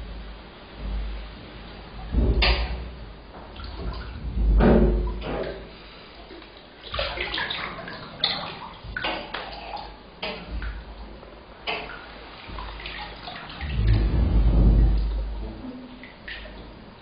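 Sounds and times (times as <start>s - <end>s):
bathwater sloshing: 0.7s - 17.0s
water splashes and drips: 0.8s - 17.0s.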